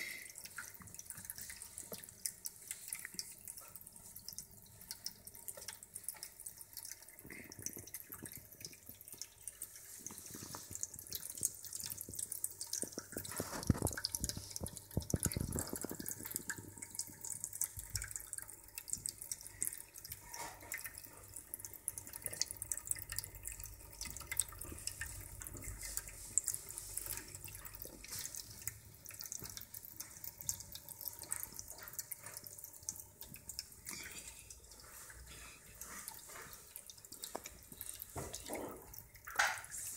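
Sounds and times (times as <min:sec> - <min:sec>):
water trickling into bowl: 0:00.0 - 0:39.9.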